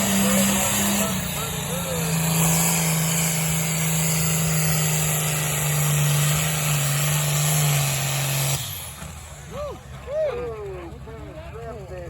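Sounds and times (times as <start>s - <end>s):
truck engine running loud: 0.0s - 12.0s.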